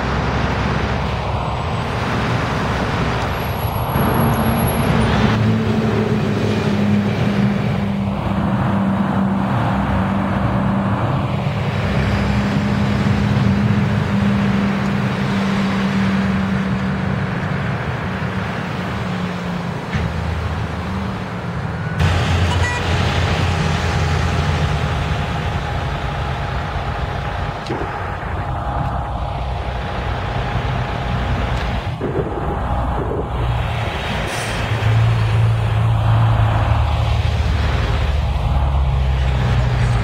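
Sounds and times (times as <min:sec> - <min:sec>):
bus diesel engine droning: 0:00.0 - 0:40.0
street traffic: 0:00.0 - 0:40.0.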